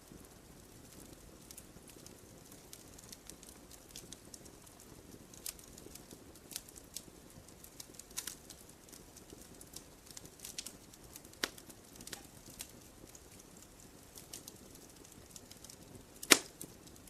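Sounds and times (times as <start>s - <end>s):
faint steady hiss: 0.0s - 17.0s
fire crackling: 0.0s - 17.0s.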